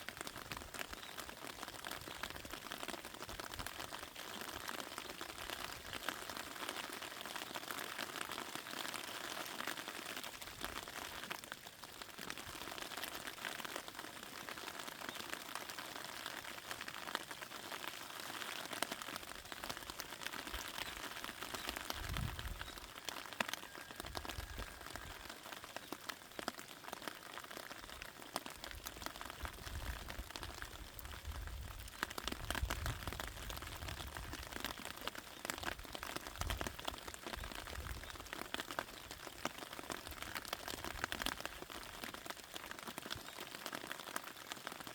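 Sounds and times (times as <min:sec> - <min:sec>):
rain pattering on plants: 0:00.0 - 0:44.9.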